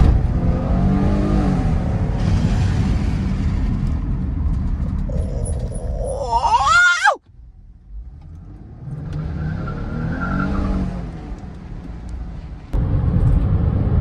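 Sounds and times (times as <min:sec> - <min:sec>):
car engine and road rumble: 0:00.0 - 0:05.9, 0:07.2 - 0:14.0.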